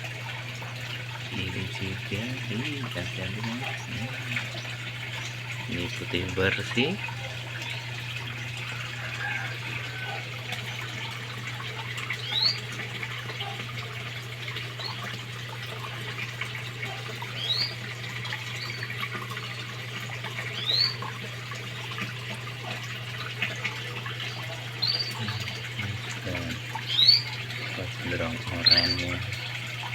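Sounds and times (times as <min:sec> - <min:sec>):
water running in a pond: 0:00.0 - 0:29.9.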